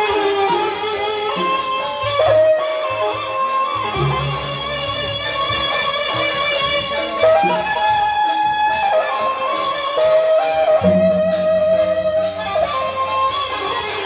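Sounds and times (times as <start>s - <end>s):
bamboo flute melody: 0.0s - 14.0s
steady cymbal beat: 0.0s - 14.0s.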